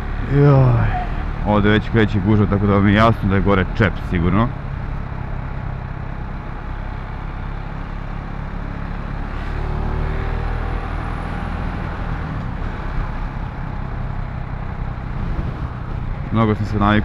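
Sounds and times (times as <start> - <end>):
wind and road rush on microphone: 0.0 - 17.0.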